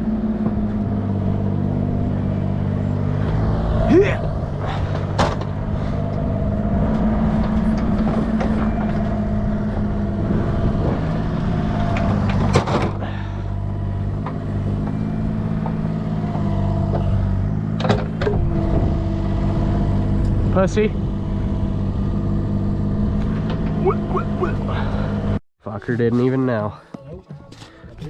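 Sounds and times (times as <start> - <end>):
engine running steadily: 0.0 - 25.4.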